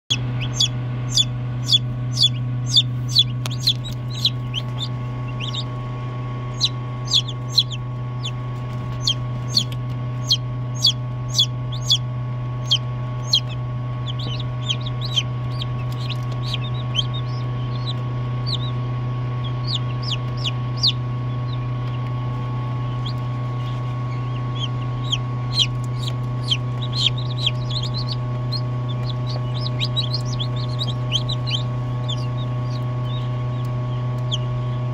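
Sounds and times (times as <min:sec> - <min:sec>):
incubator humming: 0:00.0 - 0:34.9
chicks peeping: 0:00.1 - 0:34.9.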